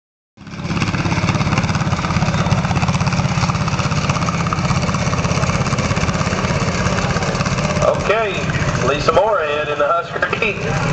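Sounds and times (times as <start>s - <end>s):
tractor engine running steadily: 0.4s - 10.9s.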